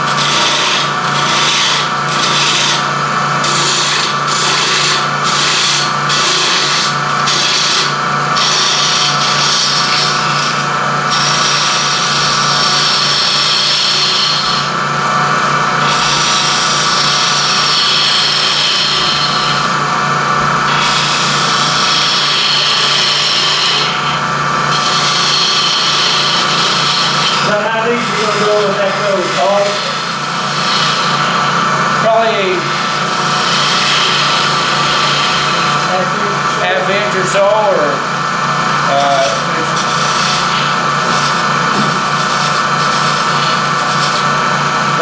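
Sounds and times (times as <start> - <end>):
turning tool cutting wood: 0.0 - 45.0
wood lathe humming: 0.0 - 45.0.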